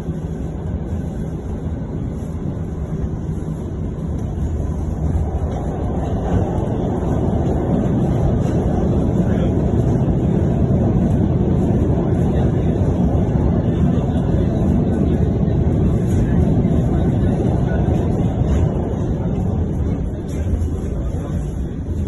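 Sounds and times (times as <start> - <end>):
electric train running: 0.0 - 22.0.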